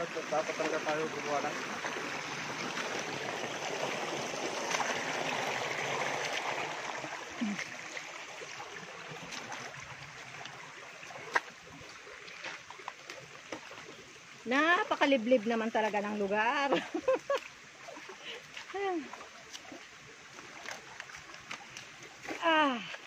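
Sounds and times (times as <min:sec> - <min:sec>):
stream water running over rocks: 0:00.0 - 0:23.0.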